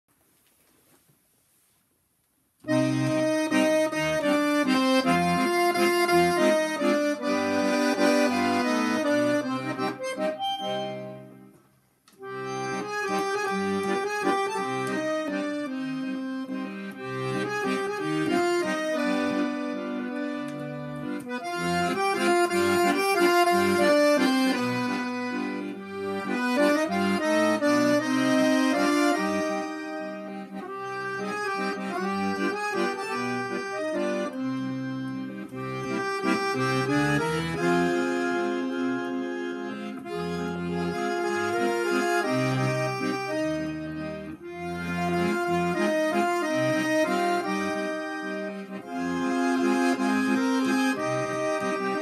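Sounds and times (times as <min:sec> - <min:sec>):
button accordion playing a tune: 0:02.6 - 0:52.0.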